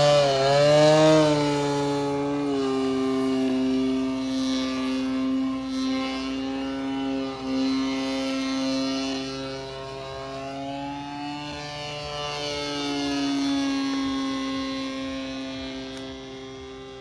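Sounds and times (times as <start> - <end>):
model airplane buzzing drone: 0.0 - 17.0.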